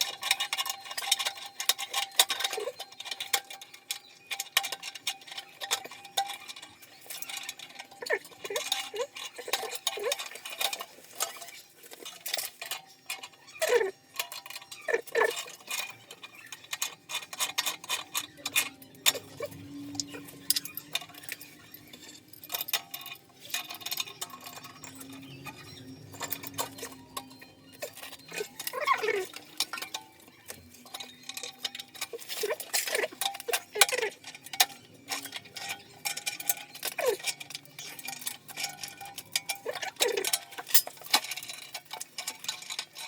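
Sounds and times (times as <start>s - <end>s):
hand tools clinking on metal pipes: 0.0s - 43.0s.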